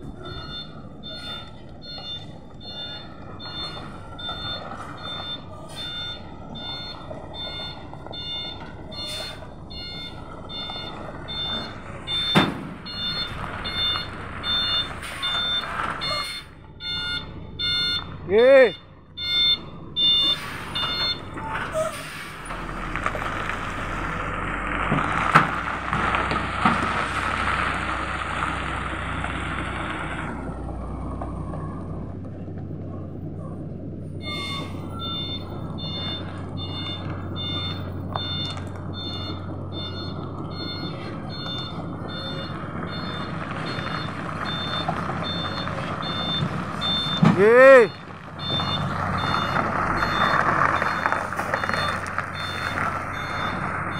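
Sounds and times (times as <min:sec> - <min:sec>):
diesel engine under load: 0:00.0 - 0:53.9
truck reversing alarm beeping: 0:00.0 - 0:53.9.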